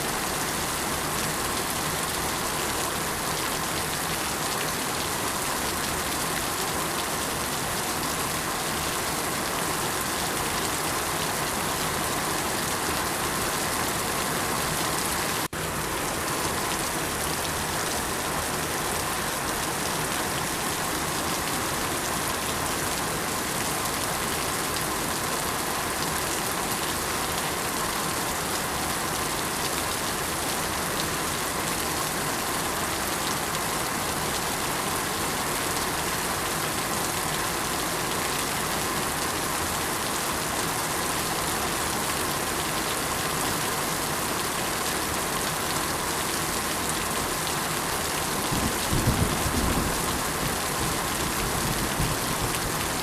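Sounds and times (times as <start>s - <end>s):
heavy rainfall: 0.0s - 53.0s.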